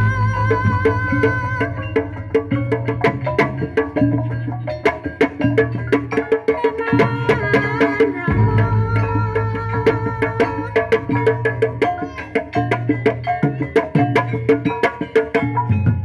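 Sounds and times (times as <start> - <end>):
hand drums in quick rhythm: 0.0 - 16.0
ringing gong-chimes and metallophones: 0.4 - 16.0.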